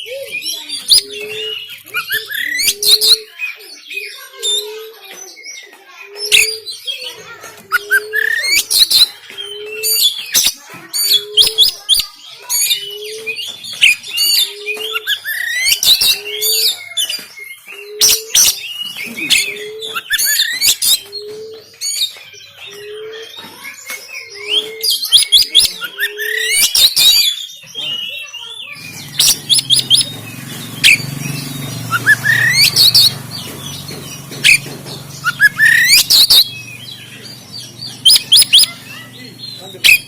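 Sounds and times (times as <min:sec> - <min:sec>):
bird singing harsh varied song: 0:00.0 - 0:40.0.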